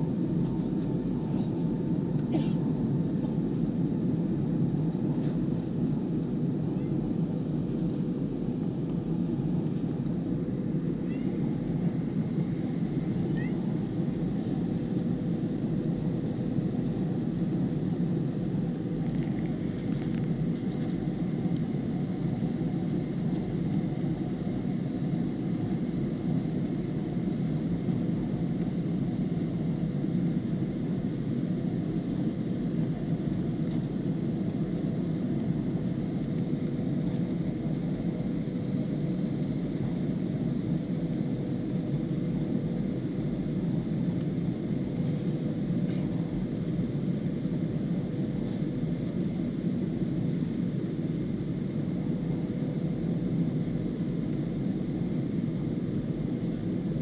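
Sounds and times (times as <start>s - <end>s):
faint constant hum: 0.0s - 57.0s.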